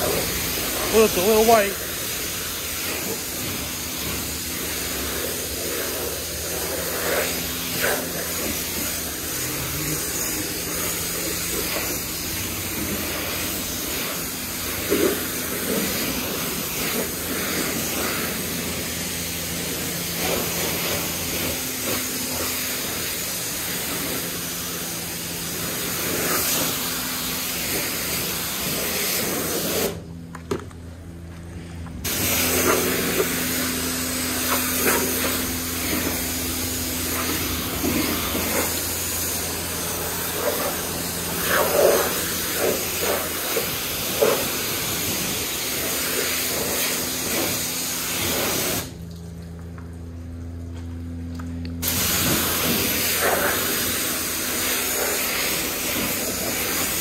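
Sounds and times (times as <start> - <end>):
high-pressure water jet hissing: 0.0 - 30.0, 32.0 - 49.0, 51.8 - 57.0.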